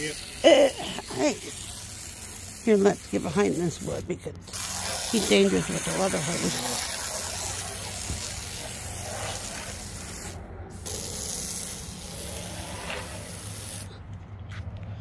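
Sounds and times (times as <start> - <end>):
water hose spraying: 0.0 - 14.0.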